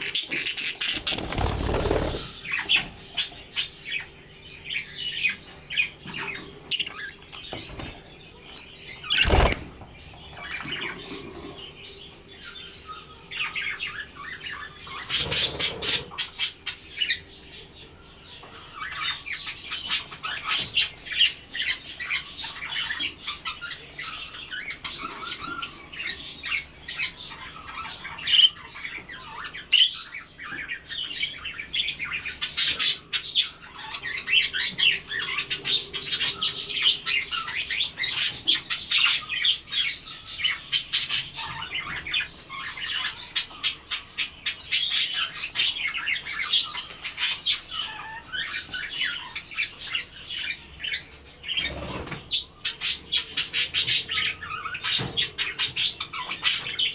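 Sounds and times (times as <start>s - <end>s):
budgerigars chattering: 0.0s - 17.3s, 18.4s - 56.9s.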